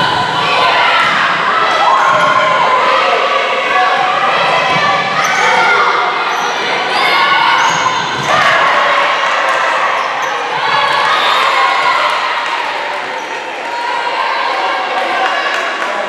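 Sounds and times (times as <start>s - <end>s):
players shouting and calling: 0.0s - 16.0s.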